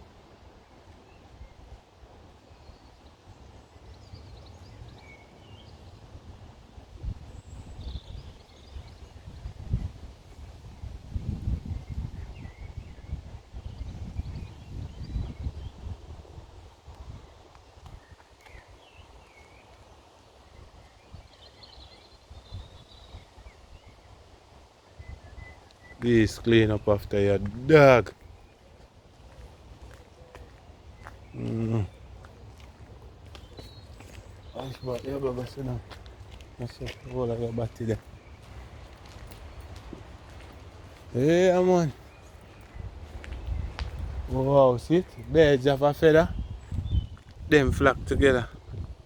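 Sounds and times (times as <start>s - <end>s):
small birds chirping: 2.4s - 49.0s.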